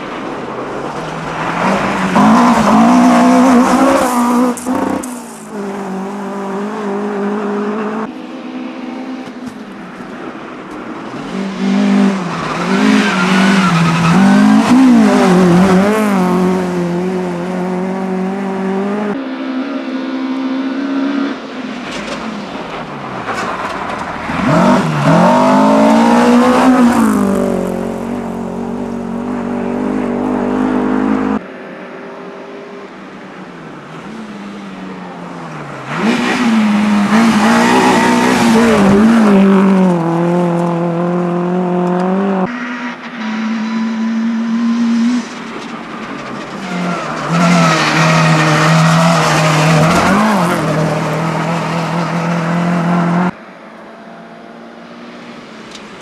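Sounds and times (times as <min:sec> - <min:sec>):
rally car engines revving past: 0:00.9 - 0:09.4, 0:11.0 - 0:31.4, 0:35.5 - 0:53.4.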